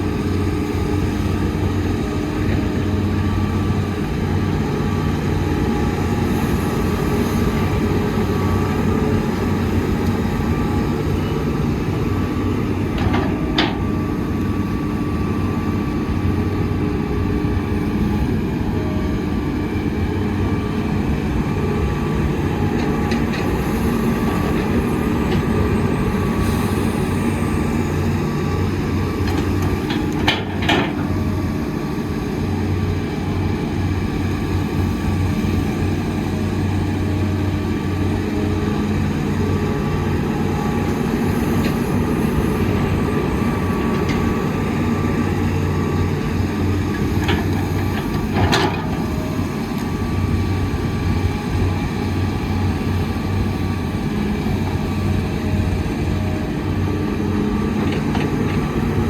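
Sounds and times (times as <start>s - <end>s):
diesel machinery engine running: 0.0s - 59.0s.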